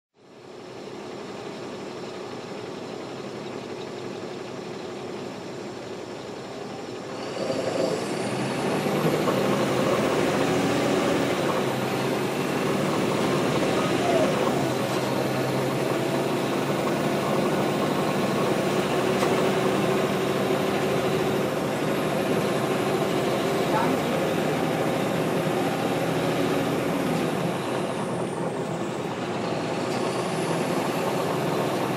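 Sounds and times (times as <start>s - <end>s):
bus diesel engine: 0.1s - 31.9s.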